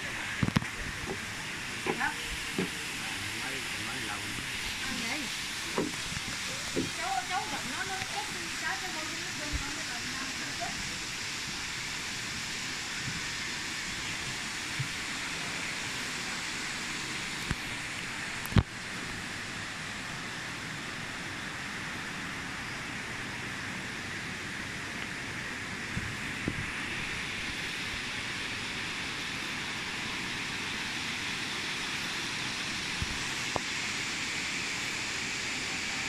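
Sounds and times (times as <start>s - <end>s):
stream water rushing over rocks: 0.0s - 36.0s.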